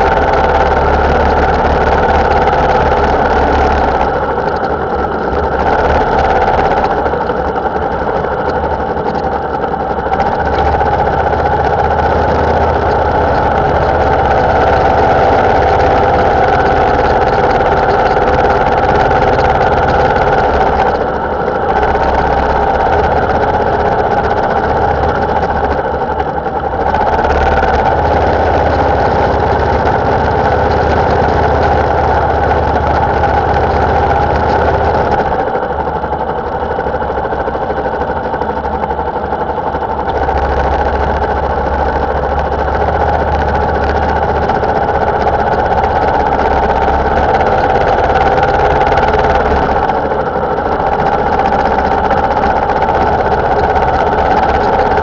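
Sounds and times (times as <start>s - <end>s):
motorcycle engine rumble: 0.0s - 55.0s.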